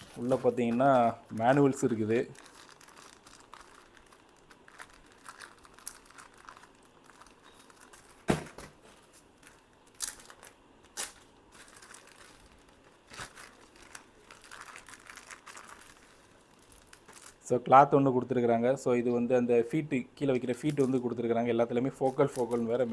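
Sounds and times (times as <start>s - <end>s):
packaging crinkling and rustling: 0.0s - 17.5s, 20.4s - 22.9s.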